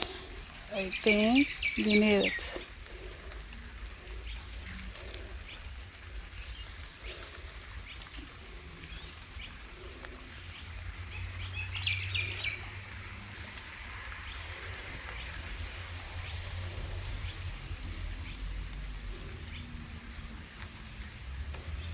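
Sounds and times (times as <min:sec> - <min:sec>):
birds chirping: 0:00.0 - 0:21.9
rain hissing: 0:00.0 - 0:21.9.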